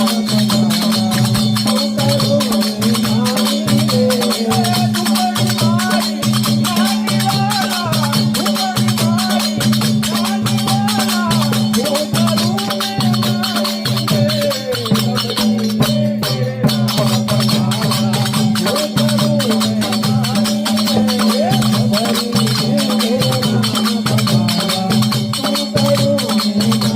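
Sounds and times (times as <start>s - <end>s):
fast rattling percussion: 0.0s - 26.9s
person singing: 0.0s - 26.9s.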